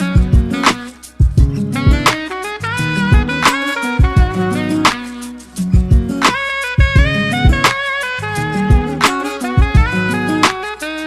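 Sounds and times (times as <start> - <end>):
upbeat jazzy music with horns: 0.0 - 11.0.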